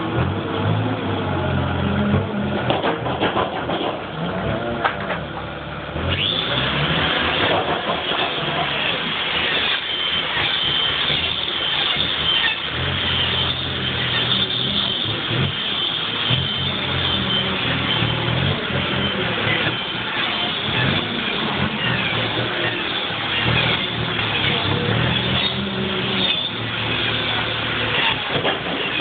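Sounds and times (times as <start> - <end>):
motor running steadily: 4.3 - 29.0.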